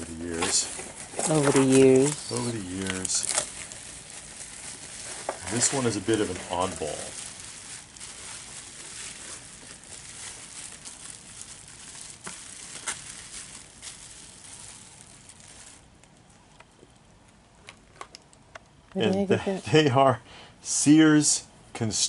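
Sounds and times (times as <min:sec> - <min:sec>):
bubble wrap crinkling: 0:00.0 - 0:18.4
sharp plastic crackles: 0:00.0 - 0:18.8.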